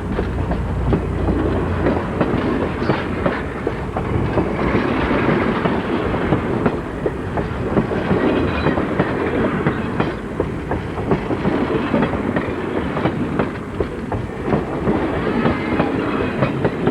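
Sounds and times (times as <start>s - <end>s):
model train rattling on track: 0.0s - 16.9s.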